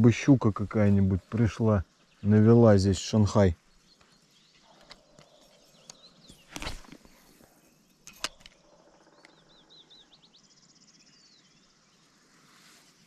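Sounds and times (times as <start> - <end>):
faint riverside ambience: 0.0 - 13.0
songbird chirping and trilling: 0.0 - 13.0.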